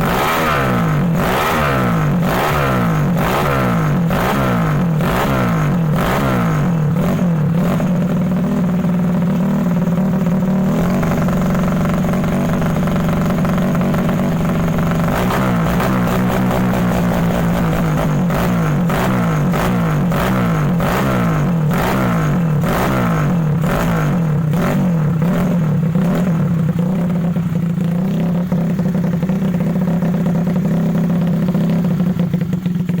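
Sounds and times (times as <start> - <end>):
scooter engine revving: 0.0 - 33.0.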